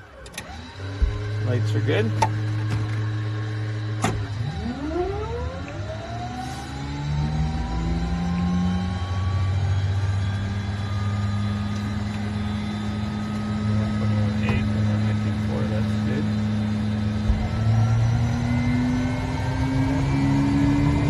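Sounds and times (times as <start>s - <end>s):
engine humming at idle: 0.0s - 21.0s
turboprop engine whine: 0.0s - 21.0s.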